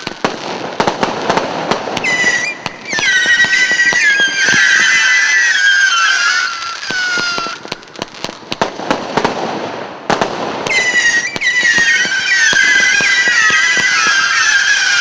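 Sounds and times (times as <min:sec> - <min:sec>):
firework whistles: 0:00.0 - 0:00.4, 0:01.0 - 0:08.4, 0:10.5 - 0:15.0
firework stars crackling and popping: 0:00.0 - 0:15.0
sharp firework crack: 0:00.0 - 0:15.0.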